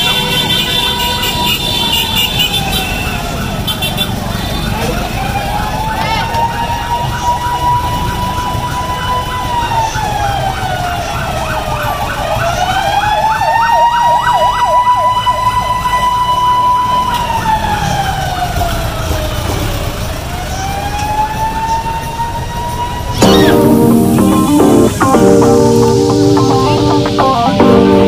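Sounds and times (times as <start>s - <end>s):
fast yelping siren: 0.0s - 4.0s, 4.8s - 19.1s, 20.3s - 27.9s
street traffic rumble: 0.0s - 28.0s
wailing siren: 0.0s - 28.0s.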